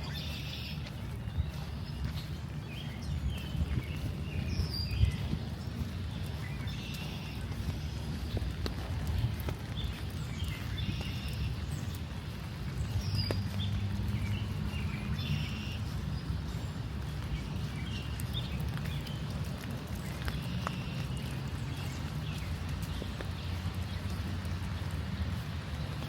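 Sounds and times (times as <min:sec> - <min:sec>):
footsteps on a path: 0:00.0 - 0:26.0
rain pattering and dripping: 0:00.0 - 0:26.0.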